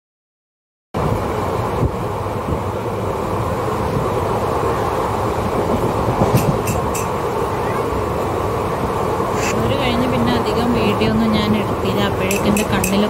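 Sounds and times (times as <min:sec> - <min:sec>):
train wheels on rail: 0:01.0 - 0:13.0.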